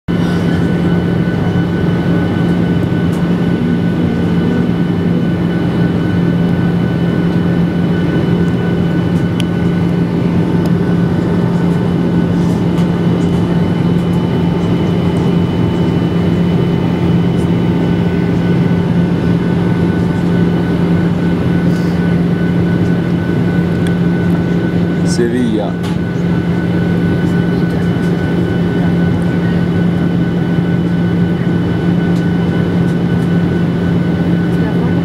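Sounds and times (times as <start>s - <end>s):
jet engine drone: 0.1s - 35.0s.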